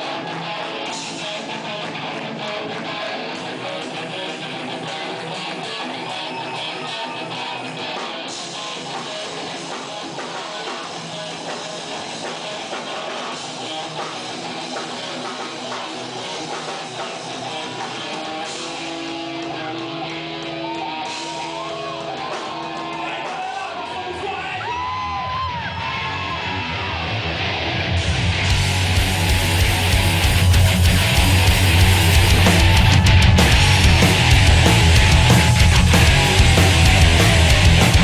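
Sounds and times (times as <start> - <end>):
hardcore rock music: 0.0 - 38.0.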